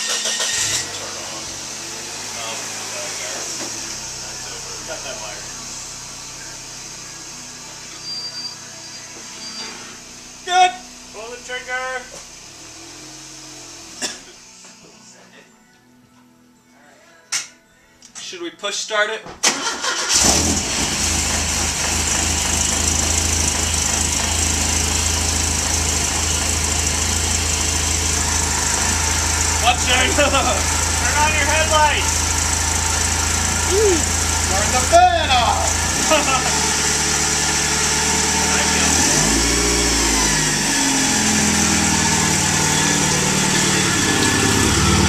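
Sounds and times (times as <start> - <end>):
car engine idling: 0.0 - 14.5, 19.4 - 45.0.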